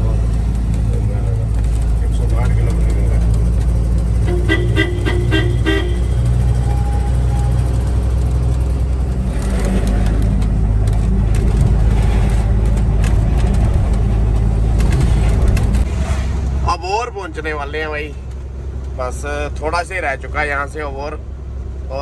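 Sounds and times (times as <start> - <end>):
road noise: 0.0 - 22.0
truck diesel engine running: 0.0 - 22.0.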